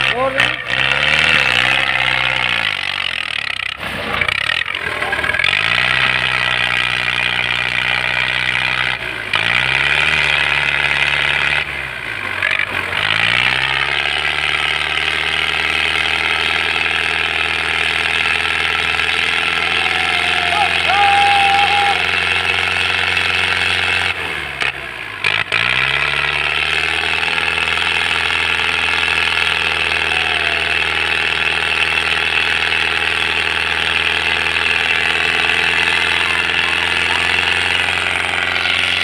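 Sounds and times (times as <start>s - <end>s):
diesel tractor engine labouring: 0.0s - 39.0s.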